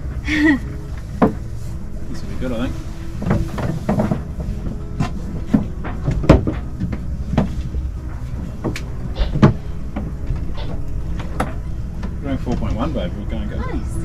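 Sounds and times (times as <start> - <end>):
knocks and clunks on a yacht: 0.0 - 13.7
steady low rumble: 0.0 - 14.0.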